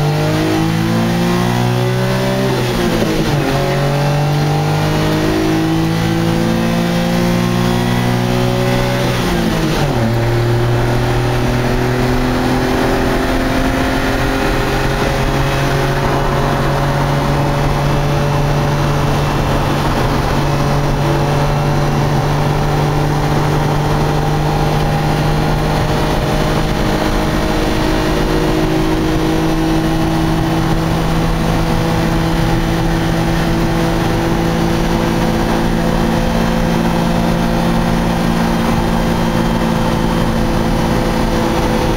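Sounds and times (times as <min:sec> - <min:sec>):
road noise: 0:00.0 - 0:41.9
truck engine droning under load: 0:00.0 - 0:41.9.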